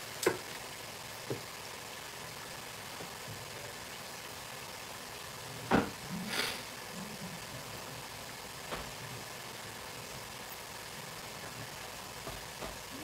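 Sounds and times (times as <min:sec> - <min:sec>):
oil sizzling in deep fryer: 0:00.0 - 0:13.0.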